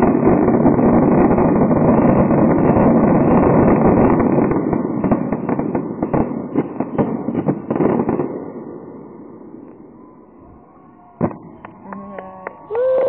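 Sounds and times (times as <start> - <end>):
fireworks bursts and reports: 0.0 - 13.0.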